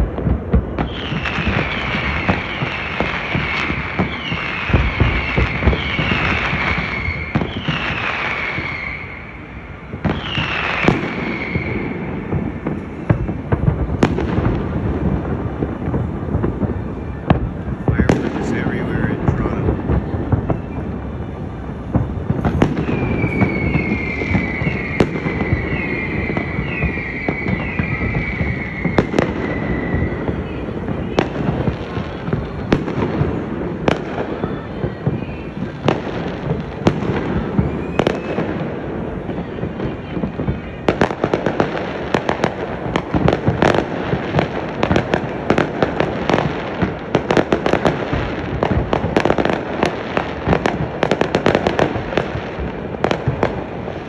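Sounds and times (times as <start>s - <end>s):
crackling firework pops: 0.0s - 54.0s
falling firework whistles: 0.0s - 54.0s
fireworks bursts rumbling: 0.0s - 54.0s
sharp fireworks bangs: 0.0s - 54.0s.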